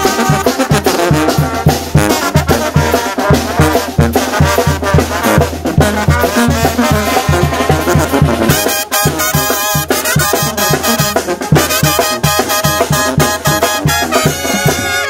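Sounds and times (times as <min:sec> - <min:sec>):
upbeat latin music with brass: 0:00.0 - 0:15.0.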